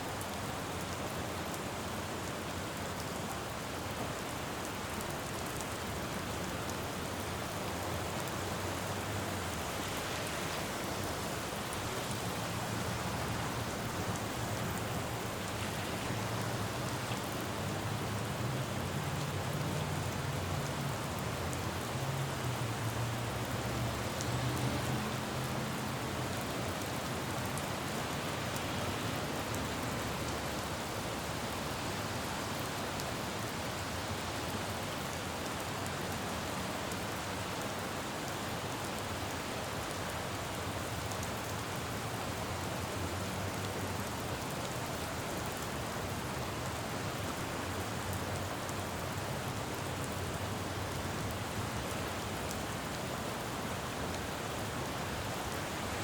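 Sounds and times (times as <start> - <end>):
rain falling on road: 0.0 - 56.0.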